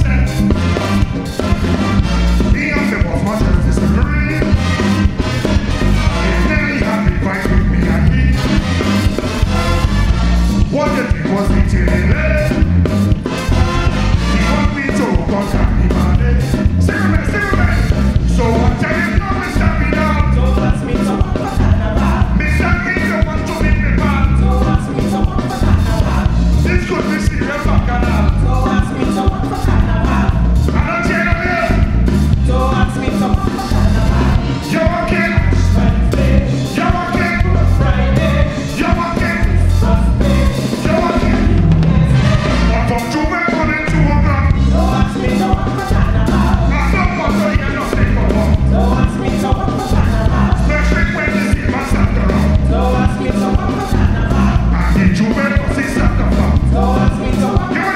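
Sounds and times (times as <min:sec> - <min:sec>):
calypso band playing: 0:00.0 - 0:57.9
man singing: 0:00.0 - 0:57.9.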